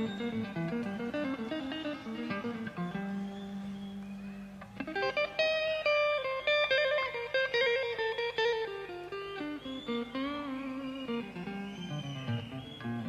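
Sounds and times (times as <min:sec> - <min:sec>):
electric guitar solo: 0:00.0 - 0:13.0.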